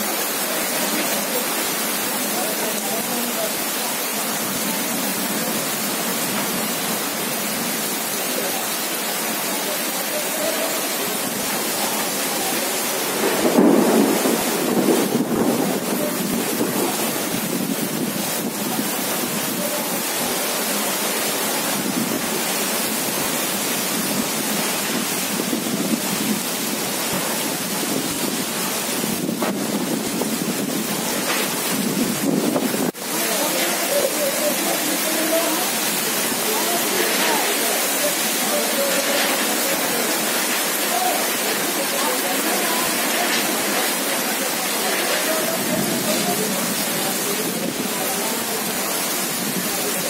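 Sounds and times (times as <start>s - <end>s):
heavy rain pouring: 0.0s - 50.0s.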